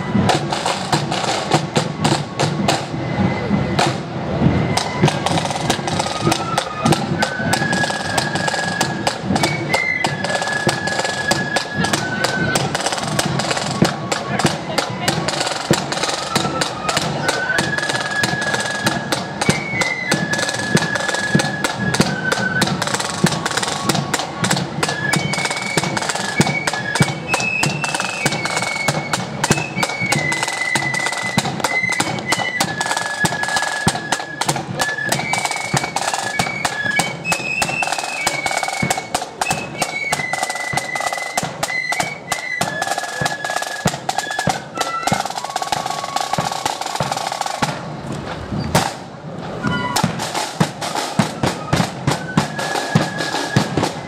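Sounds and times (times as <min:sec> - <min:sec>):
flutes playing in unison: 0:00.0 - 0:54.0
snare drum rolls: 0:00.0 - 0:54.0.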